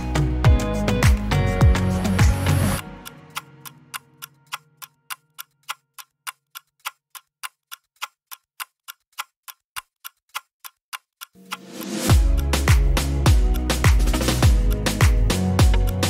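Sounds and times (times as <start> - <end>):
clock-like ticking: 0.0 - 16.0.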